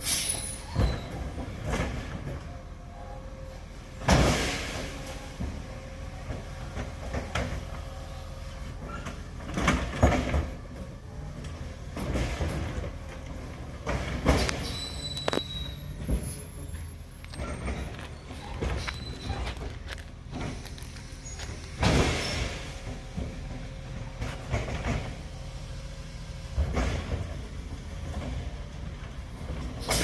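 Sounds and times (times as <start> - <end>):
garbage truck rumbling: 0.0 - 30.0.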